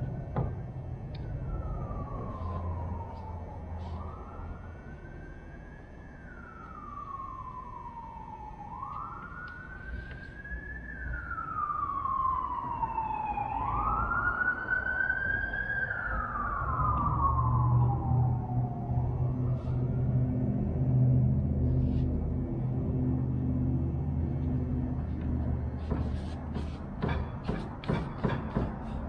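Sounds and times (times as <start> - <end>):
siren wailing: 0.0 - 26.0
higher siren: 0.0 - 26.5.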